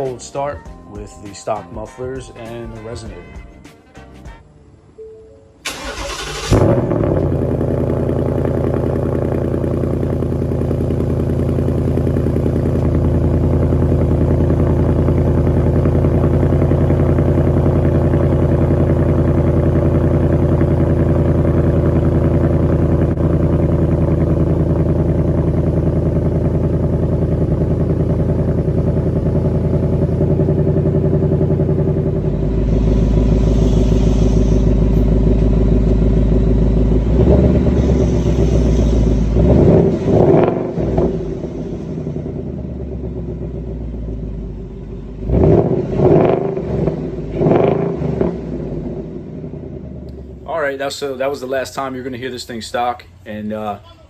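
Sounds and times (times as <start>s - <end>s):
car engine idling: 5.6s - 54.0s.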